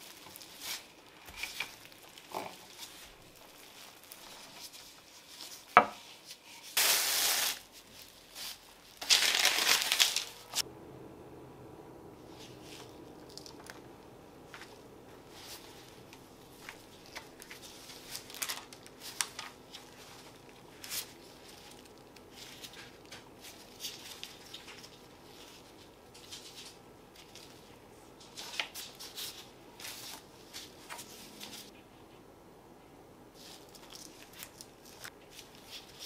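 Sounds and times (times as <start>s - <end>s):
rustling of gloves and paper: 0.0s - 10.6s, 12.3s - 31.7s, 33.3s - 36.0s.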